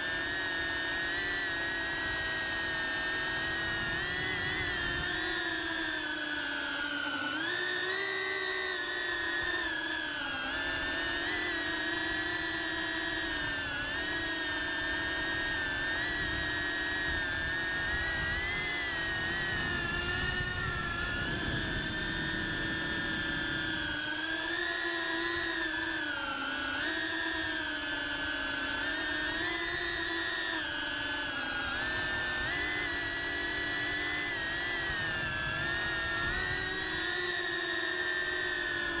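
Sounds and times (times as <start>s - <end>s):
drone motors whining: 0.1s - 39.0s.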